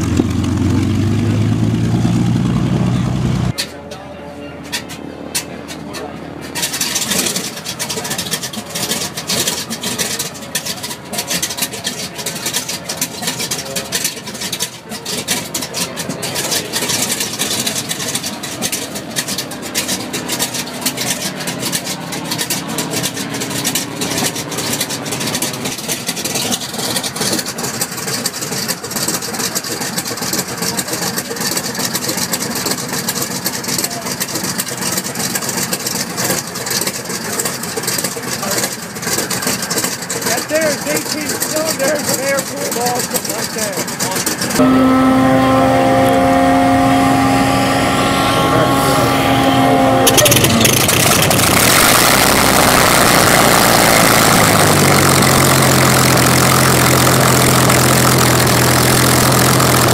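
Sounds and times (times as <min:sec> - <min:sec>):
radial aircraft engine rumbling: 0:00.0 - 0:59.9.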